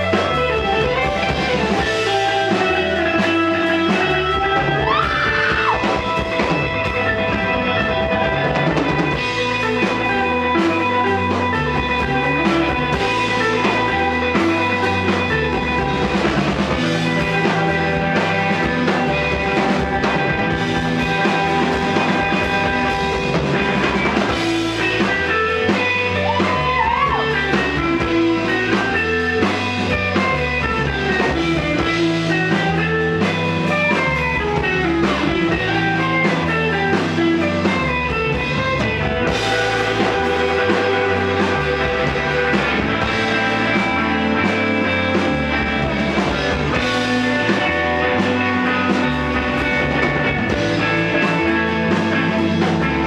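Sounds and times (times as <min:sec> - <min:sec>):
drum kit steady beat: 0:00.0 - 0:53.0
psychedelic rock band playing: 0:00.0 - 0:53.0.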